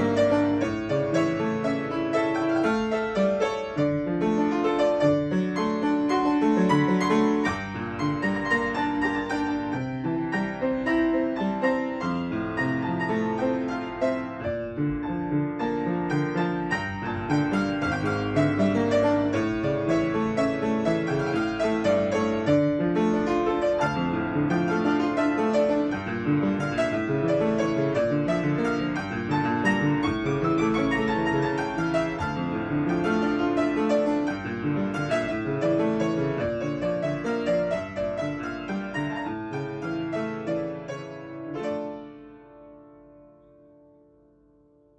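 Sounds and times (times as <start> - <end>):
solo piano: 0.0 - 44.9.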